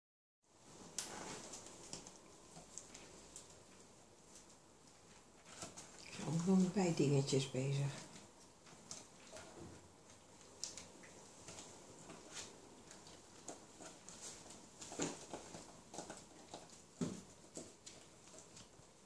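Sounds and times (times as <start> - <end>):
puppies scrabbling on newspaper: 0.9 - 19.0.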